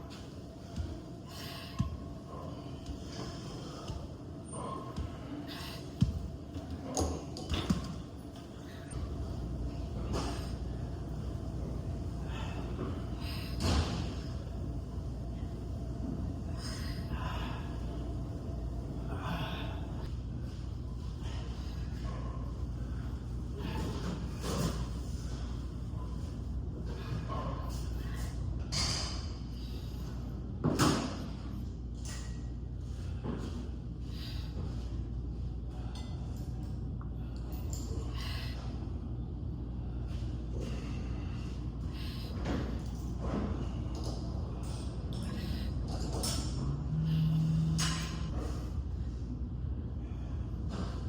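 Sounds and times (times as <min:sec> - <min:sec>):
steady low hum: 0:00.0 - 0:51.0
steady low rumble: 0:00.0 - 0:51.0.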